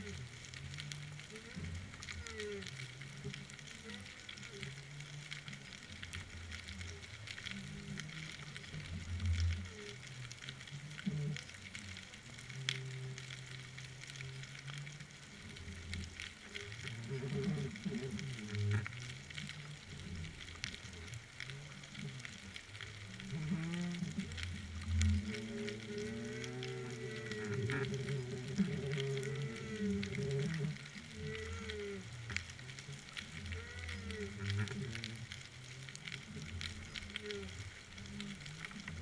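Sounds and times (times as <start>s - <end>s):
underwater fizzing crackle: 0.0s - 39.0s.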